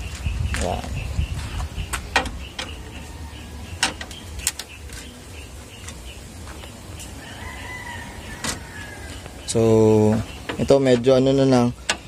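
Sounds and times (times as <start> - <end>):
bird calls: 0.0 - 12.0
insect calls: 0.0 - 12.0.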